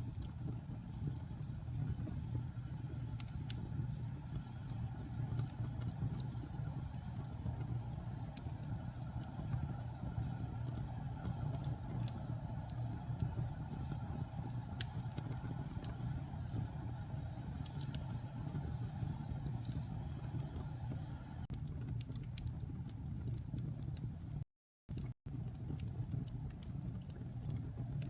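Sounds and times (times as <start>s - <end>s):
low rumble of flames: 0.0s - 24.4s, 25.0s - 28.0s
wood fire crackling and popping: 0.0s - 28.0s.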